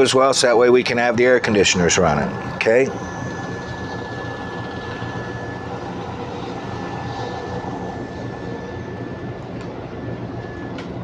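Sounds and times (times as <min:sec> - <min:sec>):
air conditioners running: 0:00.0 - 0:11.0
generator running: 0:00.0 - 0:11.0
thin steady whine: 0:00.0 - 0:11.0.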